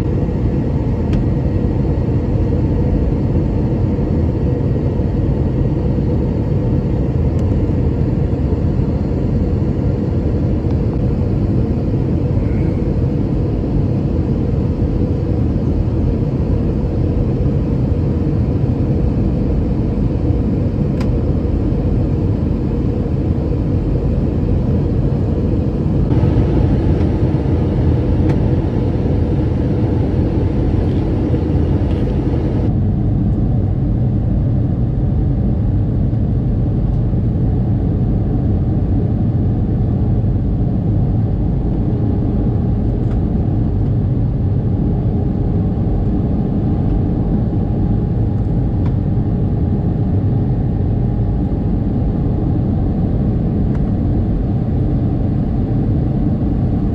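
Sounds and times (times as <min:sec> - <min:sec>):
faint engine whine: 0:00.0 - 0:56.9
jet engine and airflow rumble: 0:00.0 - 0:56.9.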